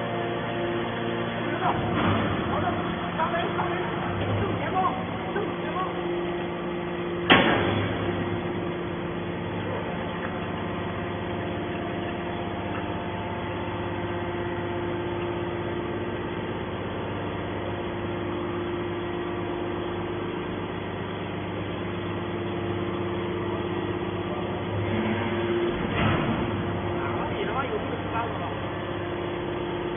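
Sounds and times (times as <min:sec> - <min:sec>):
baler machine hum: 0:00.0 - 0:29.9.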